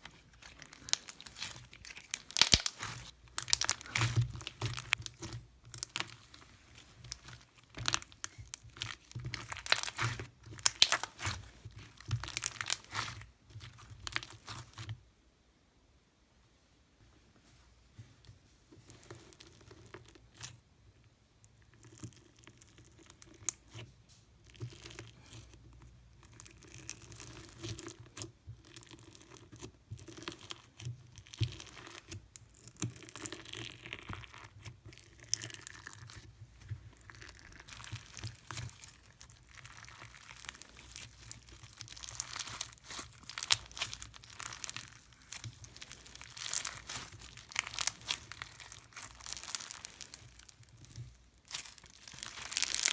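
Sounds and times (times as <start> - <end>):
hands squishing slime: 0.0 - 14.9, 24.4 - 52.9.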